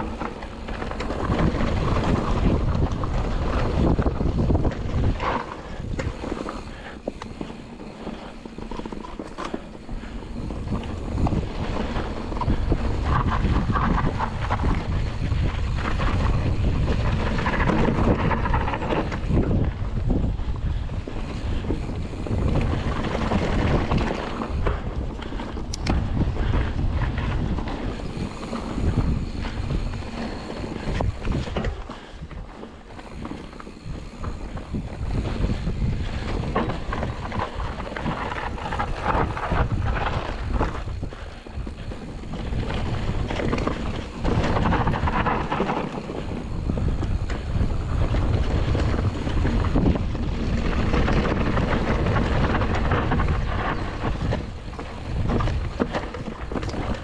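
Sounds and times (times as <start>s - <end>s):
bike tyres crunching on rocks: 0.0s - 57.0s
wind buffeting microphone: 0.0s - 57.0s.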